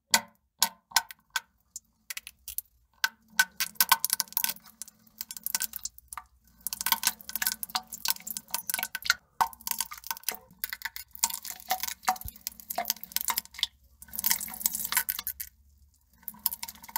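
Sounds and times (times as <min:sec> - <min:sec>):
water drips into toilet bowl: 0:00.1 - 0:16.9.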